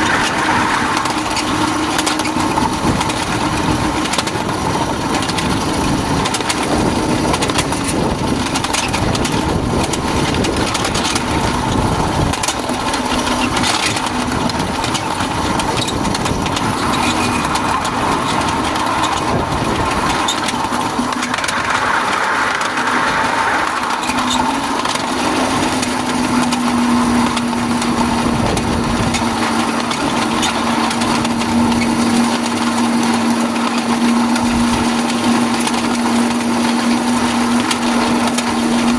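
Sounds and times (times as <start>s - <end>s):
small engine running: 0.0s - 38.9s
steel wheels clattering on rail: 0.0s - 38.9s.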